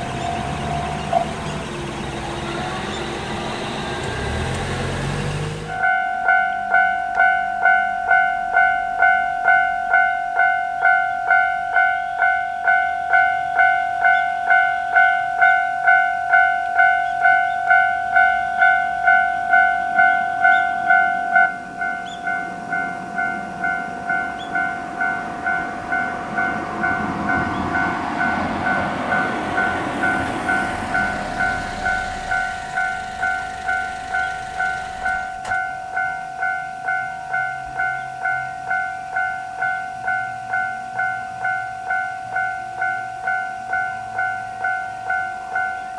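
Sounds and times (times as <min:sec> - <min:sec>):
level-crossing bell ringing: 0:00.0 - 0:45.9
passing train running noise: 0:00.0 - 0:45.9.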